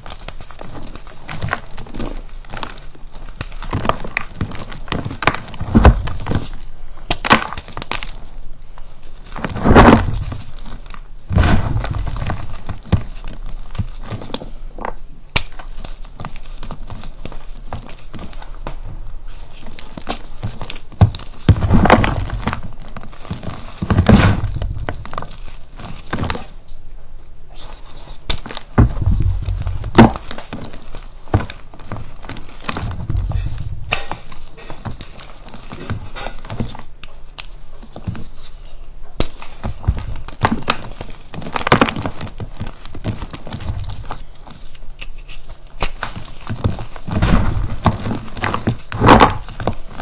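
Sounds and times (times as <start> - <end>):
chalk crunching and crackling: 0.0 - 26.7, 27.5 - 50.0.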